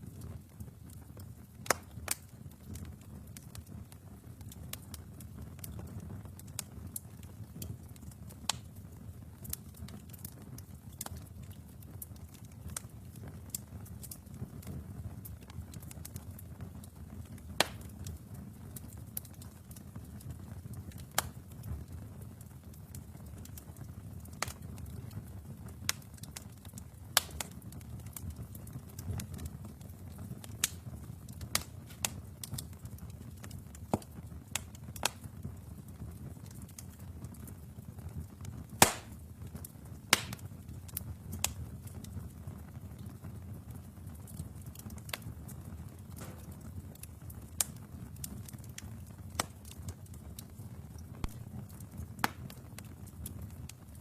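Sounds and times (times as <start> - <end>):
fire flames rumbling: 0.0 - 54.0
logs crackling and popping: 0.0 - 54.0.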